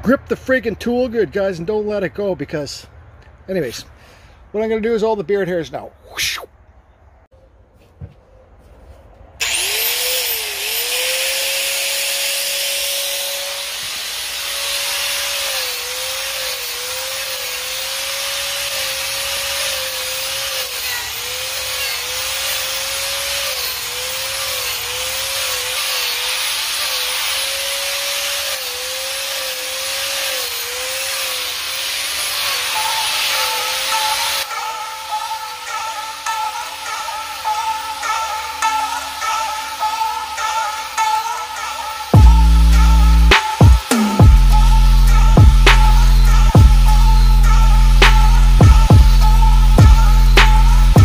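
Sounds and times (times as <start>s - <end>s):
angle grinder cutting wood: 9.4s - 51.0s
hiss of cutting: 9.4s - 51.0s.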